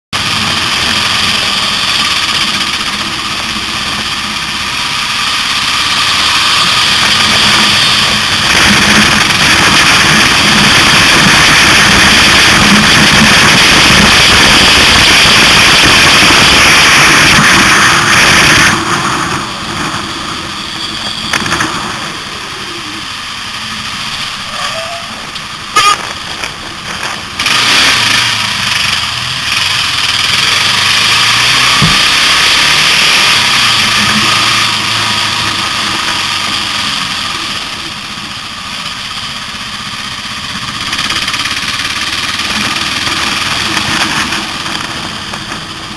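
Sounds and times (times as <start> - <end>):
wind and road noise: 0.1 - 45.9
motorcycle engine running: 0.2 - 45.9.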